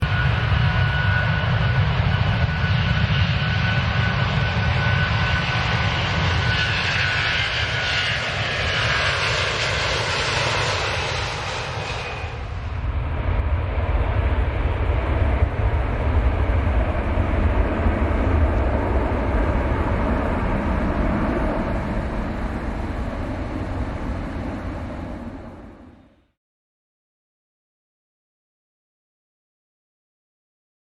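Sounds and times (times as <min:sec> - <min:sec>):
airplane engine rumble: 0:00.0 - 0:26.4.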